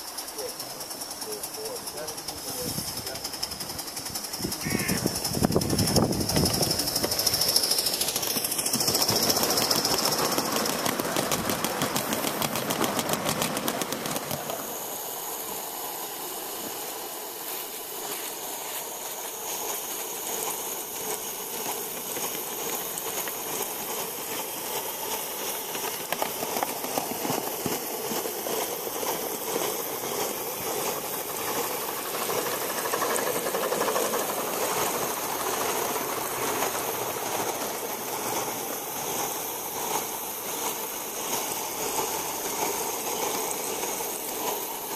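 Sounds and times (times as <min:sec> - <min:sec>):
hiss of steam: 0:00.0 - 0:44.9
model train clicking on track: 0:00.0 - 0:44.9.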